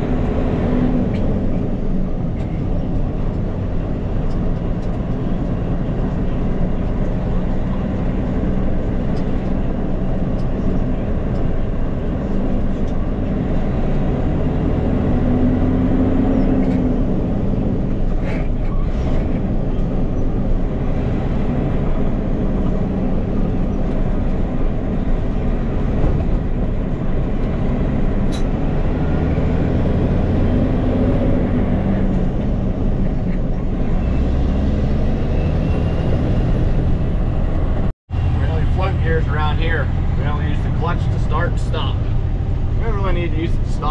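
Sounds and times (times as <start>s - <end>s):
diesel truck engine from inside cab: 0.0s - 43.9s.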